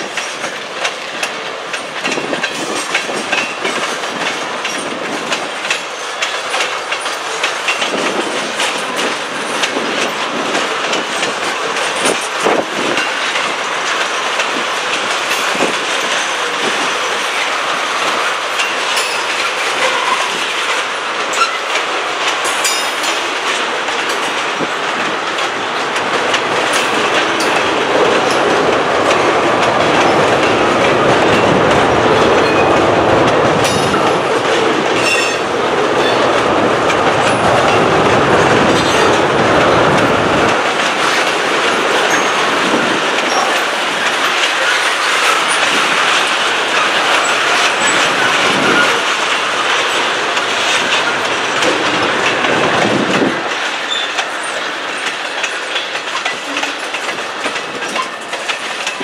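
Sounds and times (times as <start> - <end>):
clacks over rail joints: 0.0 - 59.0
train wheels rumbling on rail: 0.0 - 59.0.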